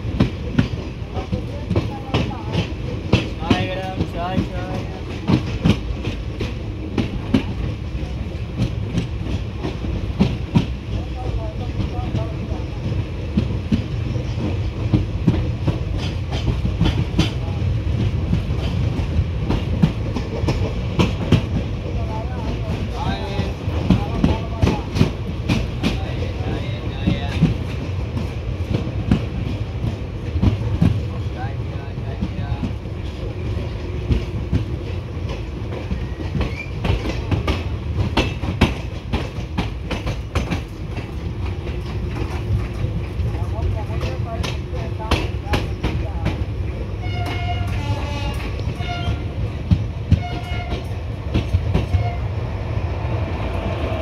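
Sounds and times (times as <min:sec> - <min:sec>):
train coach rumbling: 0:00.0 - 0:54.0
wheels clicking over rail joints: 0:00.1 - 0:52.2.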